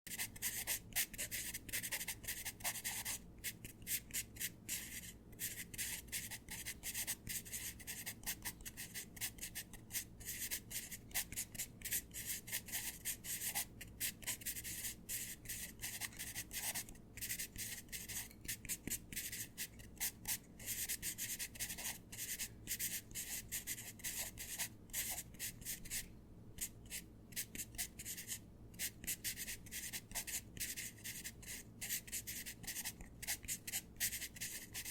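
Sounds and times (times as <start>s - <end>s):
pencil scratching on paper: 0.1s - 34.9s.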